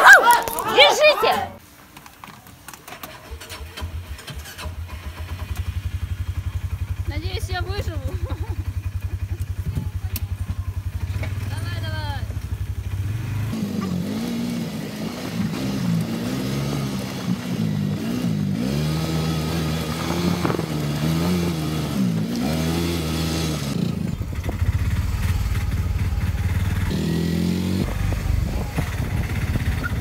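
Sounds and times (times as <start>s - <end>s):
off-road vehicle engine revving: 3.4s - 30.0s.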